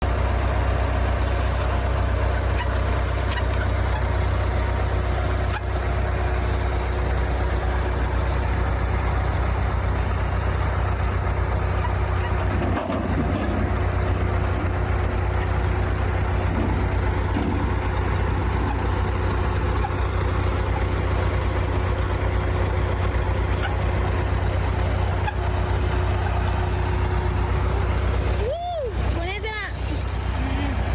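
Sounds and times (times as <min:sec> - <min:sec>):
construction machinery engine running: 0:00.0 - 0:30.9.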